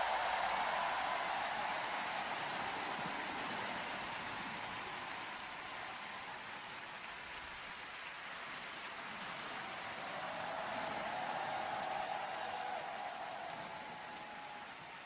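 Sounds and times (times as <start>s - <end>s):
crowd applauding and cheering: 0.0s - 15.0s.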